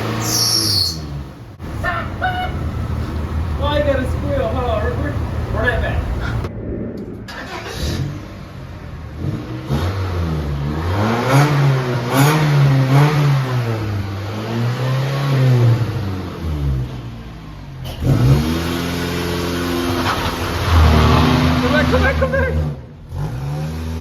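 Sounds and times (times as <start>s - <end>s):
car engine revving hard: 0.0s - 6.5s, 9.1s - 17.1s, 17.8s - 24.0s.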